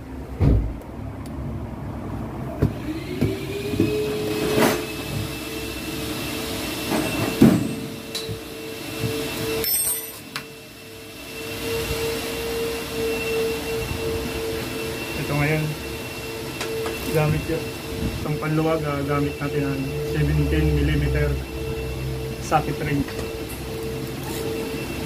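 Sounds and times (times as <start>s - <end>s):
machine motor humming and whining: 2.5s - 25.0s.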